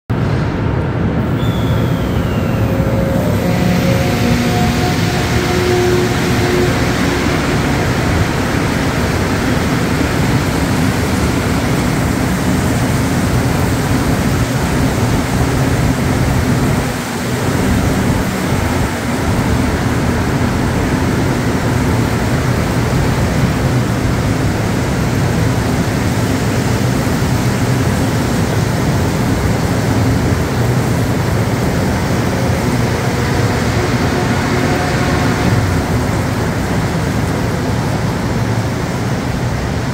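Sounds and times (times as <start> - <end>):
metro train rumbling past: 0.1 - 39.9.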